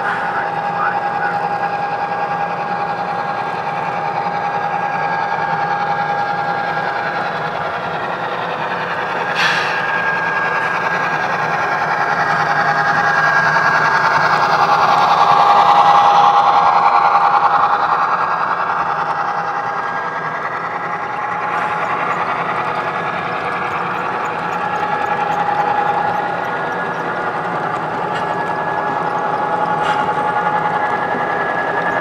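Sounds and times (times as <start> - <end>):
model train running on rails: 0.0 - 32.0.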